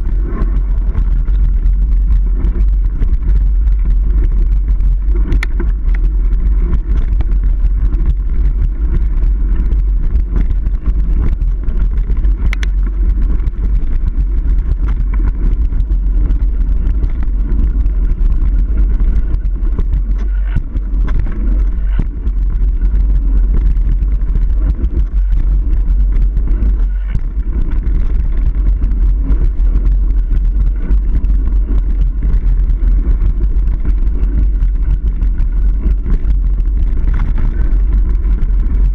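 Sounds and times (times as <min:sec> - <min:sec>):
bike tyre noise: 0:00.0 - 0:38.9
wind buffeting microphone: 0:00.0 - 0:38.9
clicks and knocks from bumps: 0:00.1 - 0:38.9.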